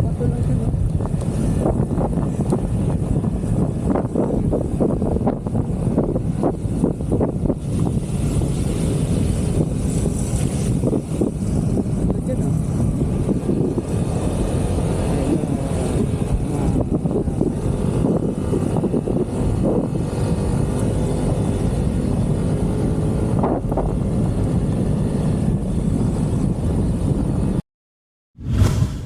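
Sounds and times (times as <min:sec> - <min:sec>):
vehicle running at speed: 0:00.0 - 0:27.6
wind on microphone: 0:00.0 - 0:27.6.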